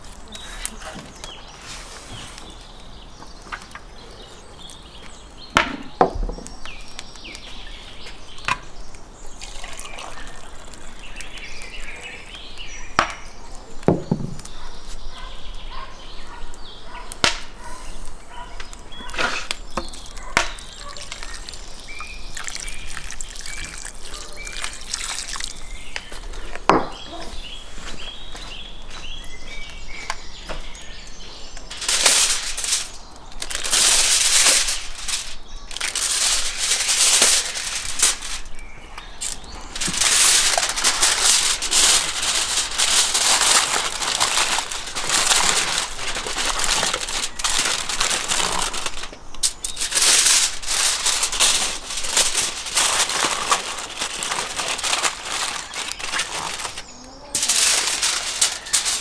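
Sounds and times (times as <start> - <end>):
aluminium foil crinkling: 6.4 - 27.4, 29.6 - 59.0.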